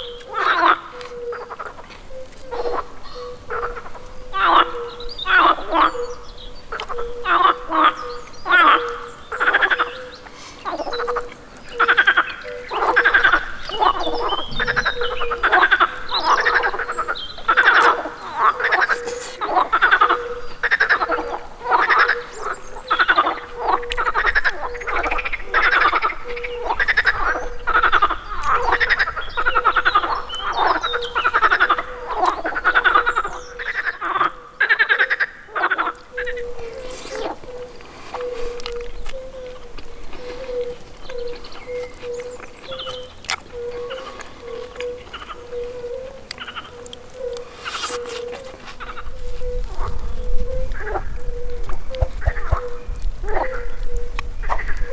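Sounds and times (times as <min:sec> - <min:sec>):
frogs croaking: 0:00.0 - 0:54.9.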